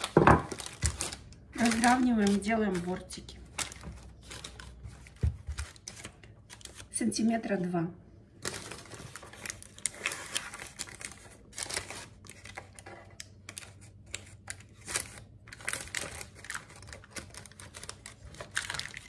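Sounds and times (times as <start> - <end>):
baking parchment crinkling: 0.0 - 7.5, 8.4 - 19.0.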